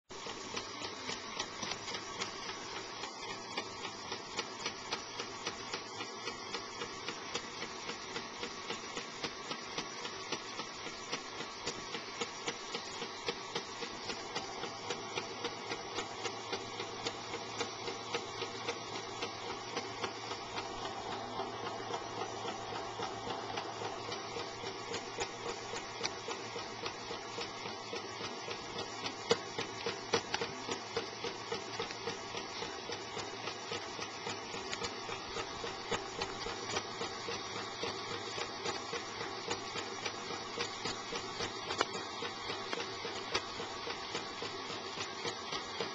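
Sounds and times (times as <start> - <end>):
pump ticking: 0.1 - 45.9
toy motor running: 0.2 - 45.9.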